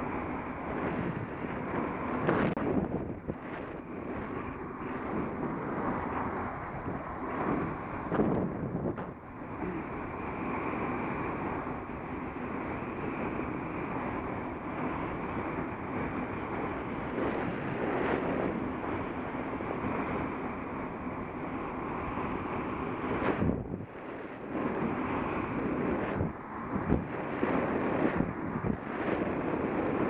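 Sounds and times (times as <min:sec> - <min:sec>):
wind over camera microphone: 0:00.0 - 0:30.0.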